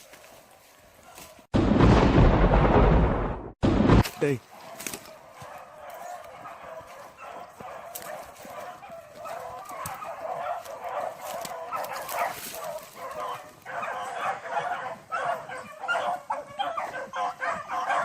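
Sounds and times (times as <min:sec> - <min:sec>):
hounds baying and yipping: 0:00.0 - 0:01.5, 0:04.4 - 0:18.0.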